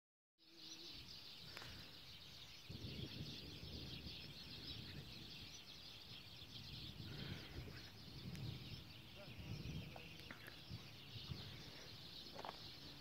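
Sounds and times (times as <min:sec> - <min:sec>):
high-pitched chirping chorus: 0:00.4 - 0:13.0
wind rumble on microphone: 0:00.7 - 0:13.0.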